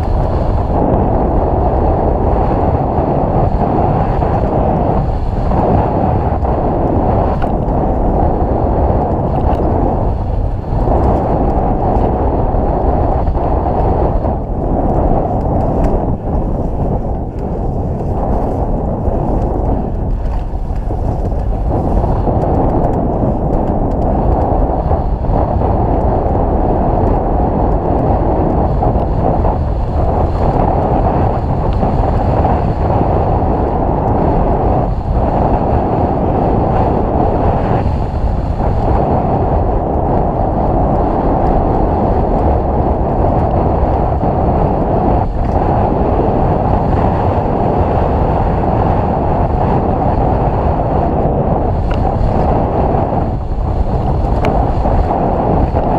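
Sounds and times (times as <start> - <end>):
bike tyres rumbling: 0.0 - 55.9
wind rush on microphone: 0.0 - 55.9.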